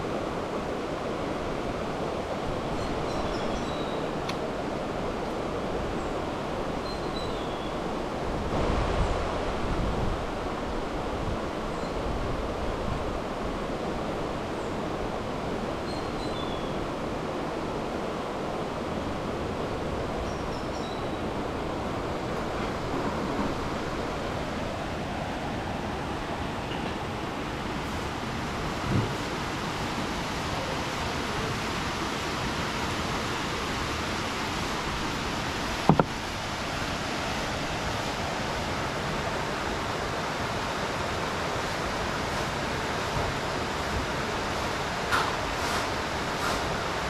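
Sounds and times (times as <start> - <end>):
river rushing over rocks: 0.0 - 47.0.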